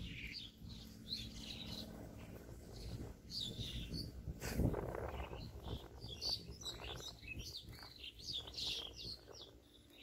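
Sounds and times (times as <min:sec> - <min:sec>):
low steady rumble: 0:00.0 - 0:10.0
small birds chirping: 0:00.0 - 0:10.0.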